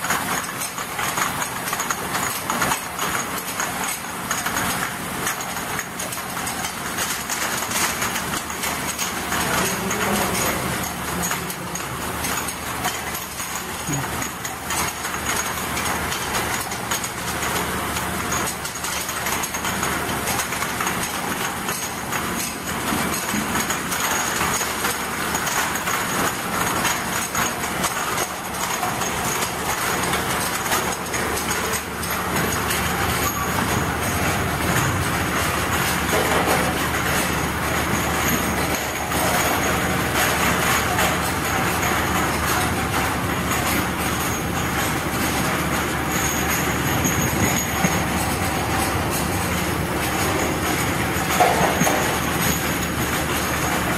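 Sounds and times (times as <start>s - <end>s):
washing machine drone and whine: 0.0s - 53.9s.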